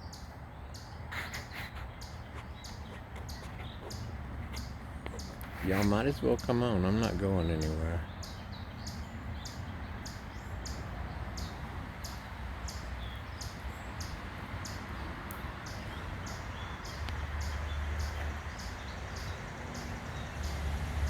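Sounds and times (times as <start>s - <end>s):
chipmunk chip calls: 0.0s - 20.7s.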